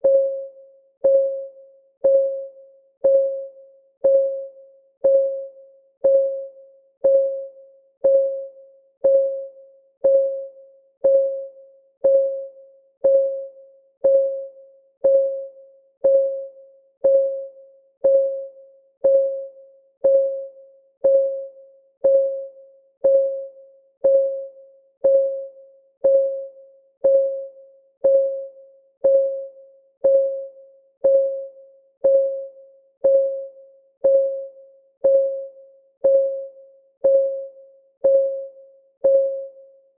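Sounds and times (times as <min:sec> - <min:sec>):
countdown timer ticking: 0:01.0 - 0:01.4, 0:02.0 - 0:02.4, 0:03.0 - 0:04.4, 0:05.0 - 0:39.6.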